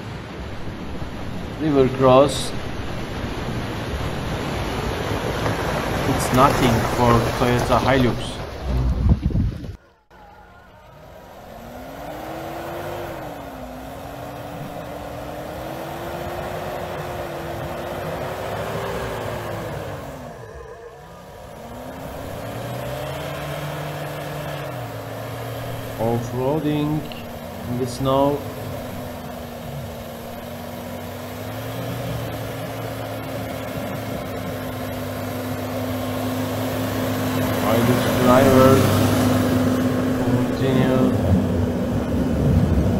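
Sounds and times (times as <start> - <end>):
truck engine revving: 0.0 - 42.9.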